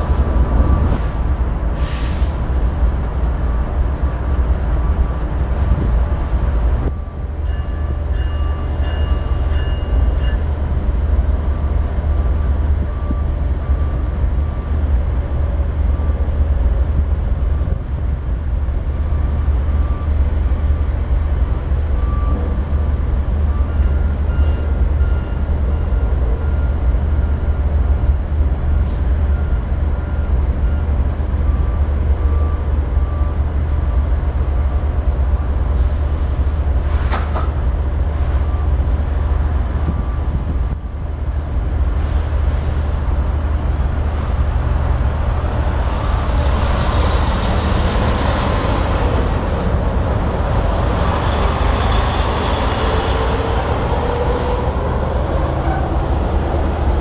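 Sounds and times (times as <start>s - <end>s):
diesel train rumbling: 0.0s - 57.0s.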